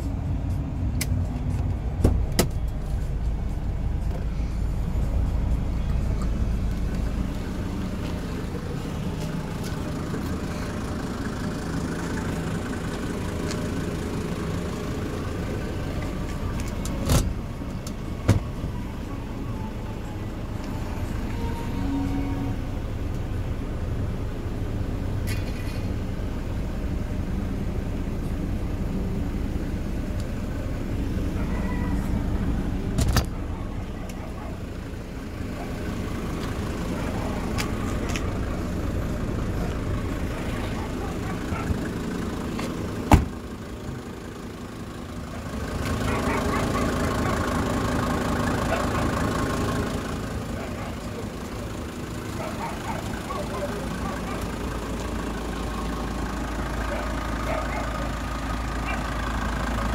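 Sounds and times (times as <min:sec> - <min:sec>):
motor vehicle rumble: 0:00.0 - 0:59.9.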